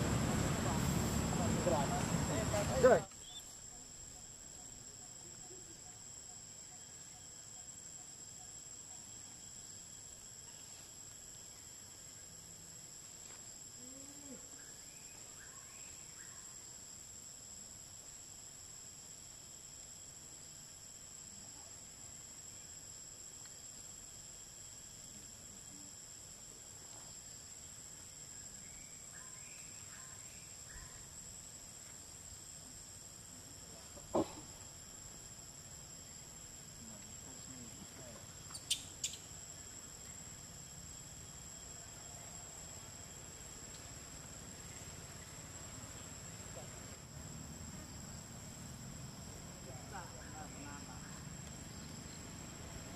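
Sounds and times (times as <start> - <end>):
insects shrilling in trees: 0.0 - 52.9.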